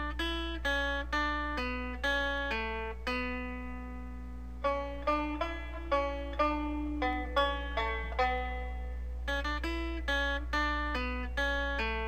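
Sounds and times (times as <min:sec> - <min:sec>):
guitar picking single notes: 0:00.0 - 0:12.0
steady low hum: 0:00.0 - 0:12.0.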